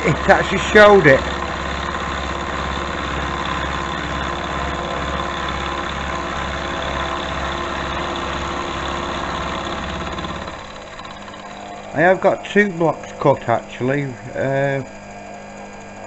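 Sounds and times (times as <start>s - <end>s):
rhythmic milling chatter: 0.0s - 13.0s
milling machine motor hum: 0.0s - 16.0s.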